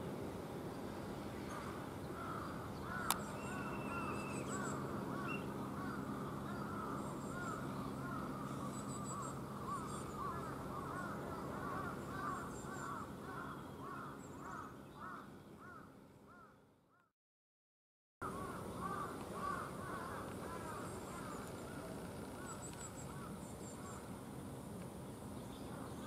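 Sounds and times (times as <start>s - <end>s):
steady low hum: 0.0s - 16.9s, 18.2s - 26.0s
distant birds calling: 0.6s - 17.1s, 18.2s - 26.0s.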